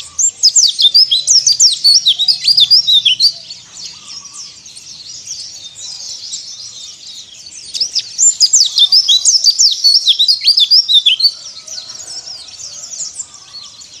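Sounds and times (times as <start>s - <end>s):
bird twittering: 0.0s - 14.0s.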